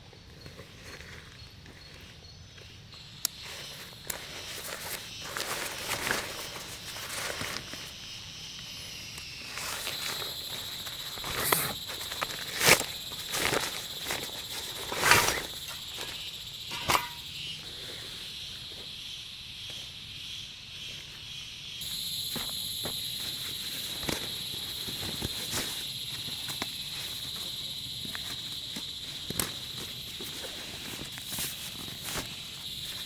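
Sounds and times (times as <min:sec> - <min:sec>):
insect chirring: 0:00.0 - 0:33.0.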